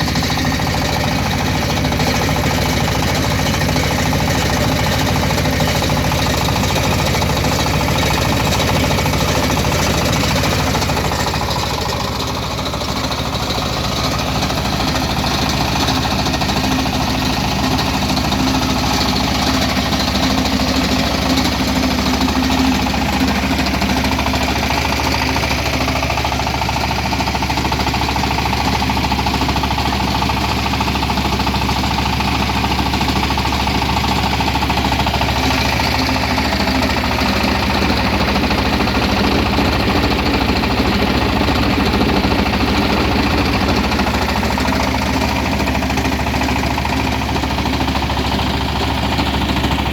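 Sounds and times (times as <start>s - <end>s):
diesel engine knocking: 0.0s - 49.9s.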